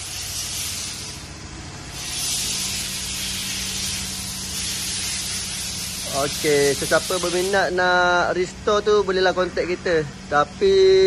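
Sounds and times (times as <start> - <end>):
steady hissing workshop noise: 0.0 - 11.0.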